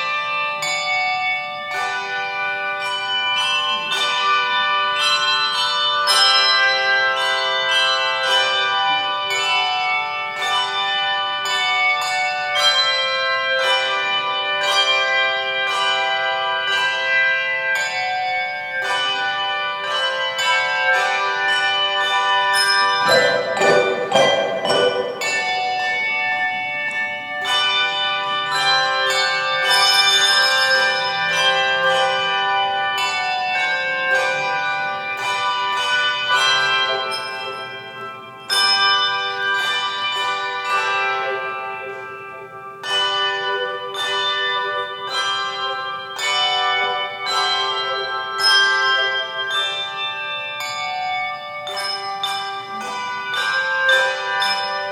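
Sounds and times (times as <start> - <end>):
tuned bells ringing chords: 0.0 - 54.9.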